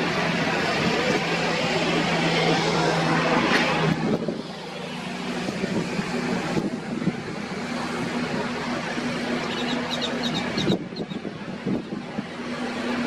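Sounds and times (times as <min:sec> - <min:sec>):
machine engine humming: 0:00.0 - 0:13.0
surf-like noise: 0:00.0 - 0:13.0
wind: 0:00.0 - 0:13.0.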